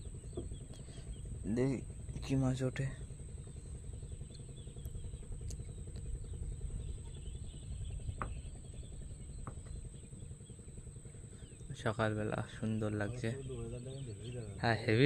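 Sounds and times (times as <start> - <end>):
low outdoor rumble: 0.0 - 15.0
rising bird chirps: 0.0 - 15.0.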